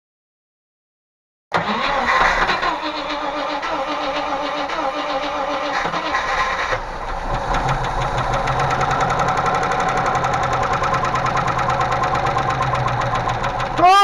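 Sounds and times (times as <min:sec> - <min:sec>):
car engine cranking and starting: 0:01.5 - 0:14.0
car engine idling: 0:01.6 - 0:14.0
fast even engine tapping: 0:02.2 - 0:14.0.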